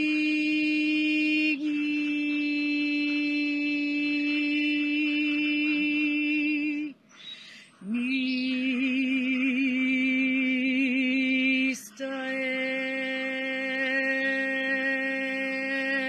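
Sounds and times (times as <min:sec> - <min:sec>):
woman chanting held tones: 0:00.0 - 0:16.0.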